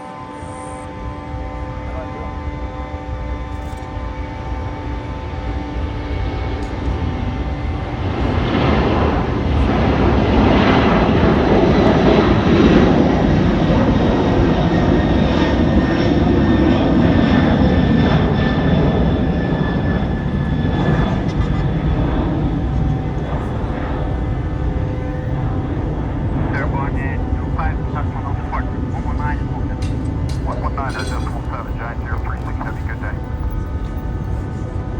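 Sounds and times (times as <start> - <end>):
deep jet engine rumble: 0.0 - 34.9
jet engine turbine whine: 0.0 - 34.9.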